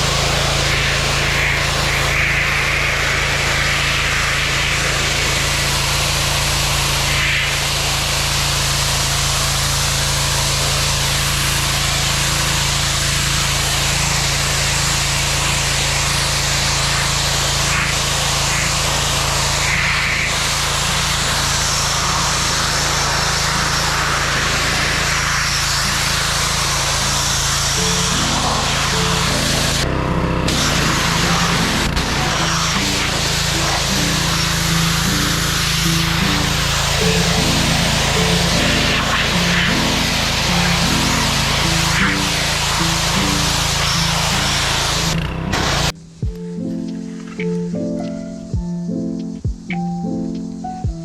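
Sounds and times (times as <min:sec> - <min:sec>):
machine hissing and humming: 0:00.0 - 0:51.0.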